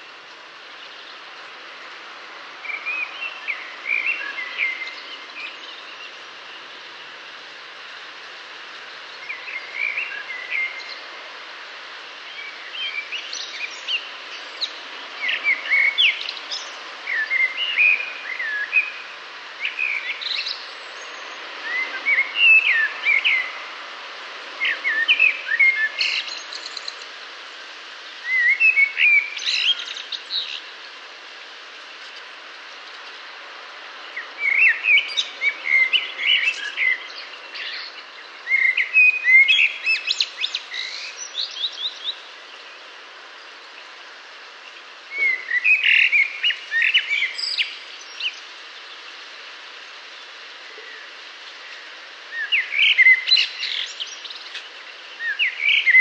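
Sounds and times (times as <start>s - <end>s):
steady background hiss: 0.0s - 56.0s
birdsong chirps and whistles: 0.2s - 6.7s, 8.6s - 11.2s, 12.2s - 23.8s, 24.5s - 27.2s, 27.9s - 56.0s.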